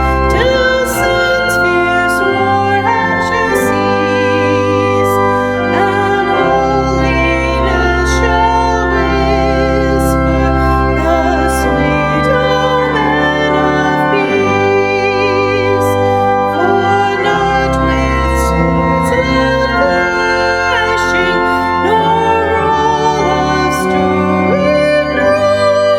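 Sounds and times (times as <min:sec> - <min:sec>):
organ music: 0:00.0 - 0:25.9.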